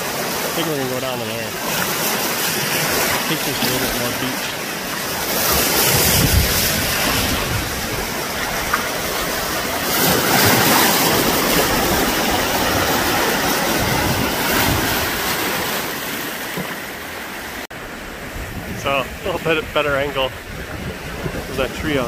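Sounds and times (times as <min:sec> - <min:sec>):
surf breaking on rocky shore: 0:00.0 - 0:22.0.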